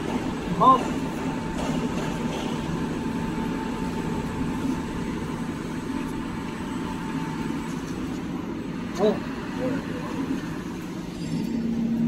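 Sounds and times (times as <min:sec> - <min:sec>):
high machine whine: 0:00.0 - 0:12.0
machine humming: 0:00.0 - 0:12.0.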